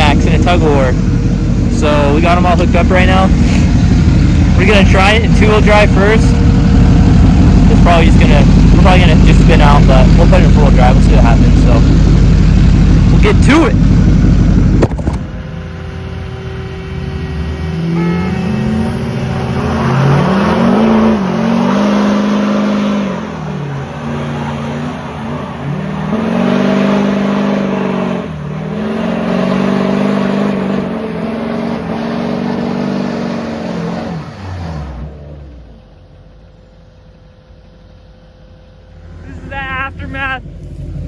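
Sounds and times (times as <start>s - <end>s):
diesel engine revving hard: 0.0s - 36.1s
tires spinning with rough hiss: 0.0s - 41.0s.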